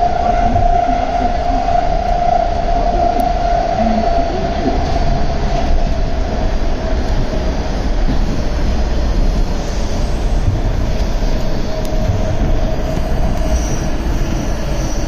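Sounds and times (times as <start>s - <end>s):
high train whine: 0.0s - 15.0s
train wheels rumbling on rail: 0.0s - 15.0s.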